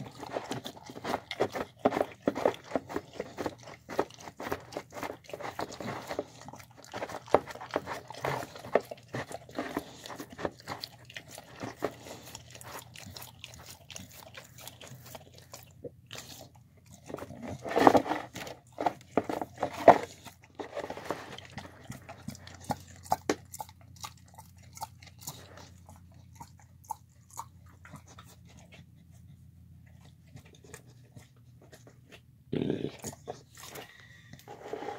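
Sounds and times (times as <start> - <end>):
dog chewing and crunching food: 0.0 - 34.9.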